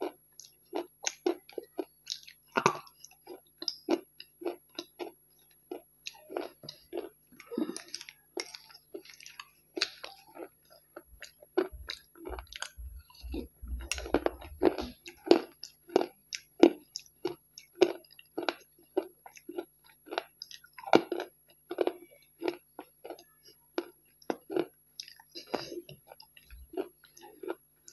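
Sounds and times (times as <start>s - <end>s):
person chewing crunchy food: 0.0s - 27.9s.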